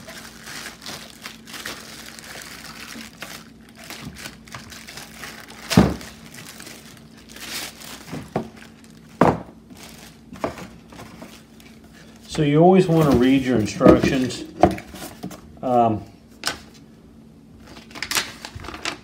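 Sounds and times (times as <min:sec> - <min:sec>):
packaging crinkling and rustling: 0:00.0 - 0:15.5, 0:17.6 - 0:19.0.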